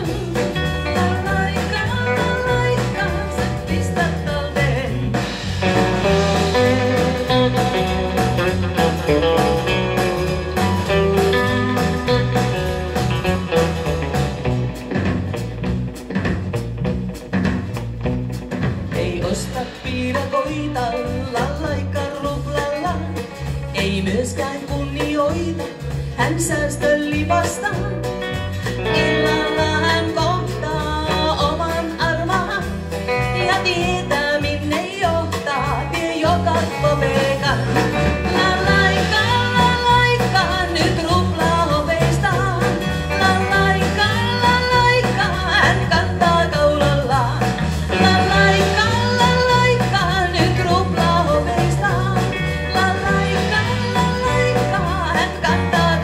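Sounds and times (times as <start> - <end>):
woman singing: 0.0 - 14.0, 18.9 - 56.0
live band playing: 0.0 - 56.0.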